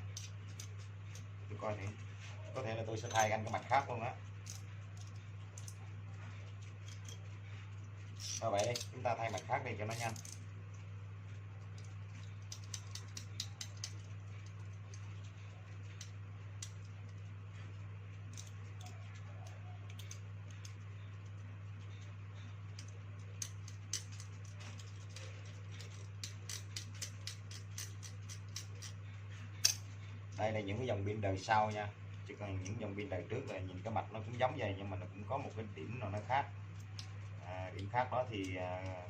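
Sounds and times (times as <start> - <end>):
steady low hum: 0.0 - 39.0
light clicks of small parts: 0.1 - 2.0, 3.0 - 30.6, 31.7 - 34.6, 35.3 - 39.0.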